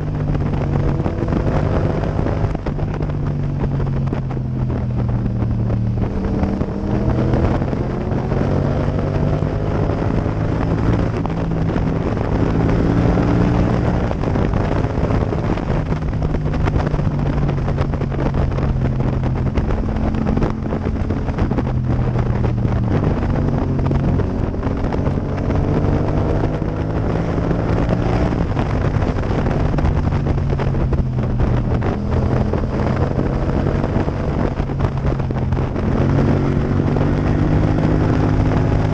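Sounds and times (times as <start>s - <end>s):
motorcycle engine at road speed: 0.0s - 38.9s
wind rush: 0.0s - 38.9s.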